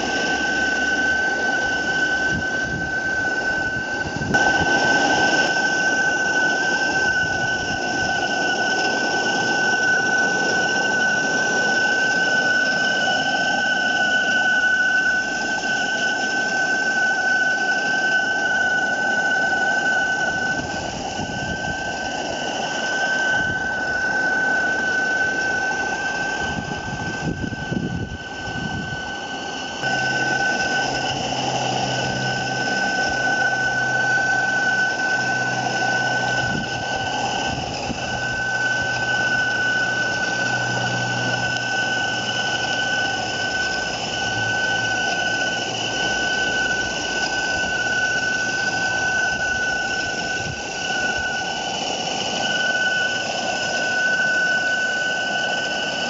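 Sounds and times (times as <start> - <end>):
low hum: 0.0 - 56.0
steam engine whistle: 0.0 - 56.0.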